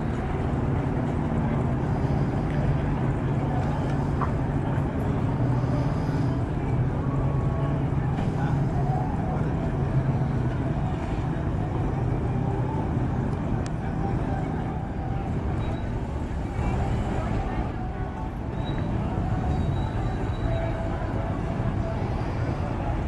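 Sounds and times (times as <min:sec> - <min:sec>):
car engine running at low revs: 0:00.0 - 0:23.0
faint voices: 0:00.0 - 0:23.0.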